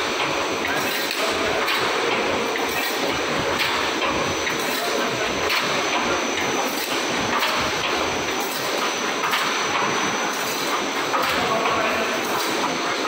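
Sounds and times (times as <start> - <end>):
welding machine clatter: 0.0 - 13.0.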